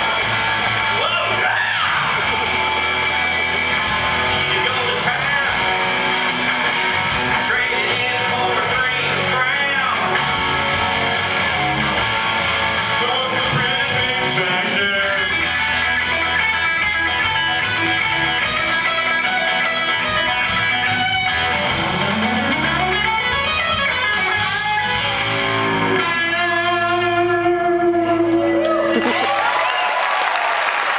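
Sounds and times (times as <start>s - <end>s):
strummed guitar song: 0.0s - 28.9s.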